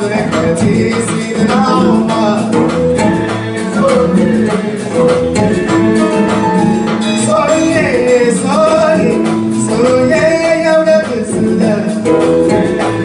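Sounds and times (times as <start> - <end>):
congas: 0.0 - 13.0
live latin band playing: 0.0 - 13.0
man singing: 0.0 - 13.0.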